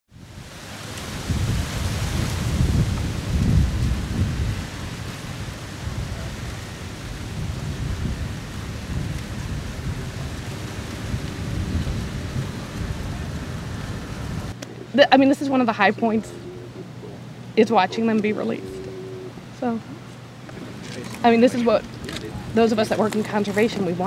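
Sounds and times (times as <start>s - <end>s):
wind buffeting microphone: 0.2s - 24.0s.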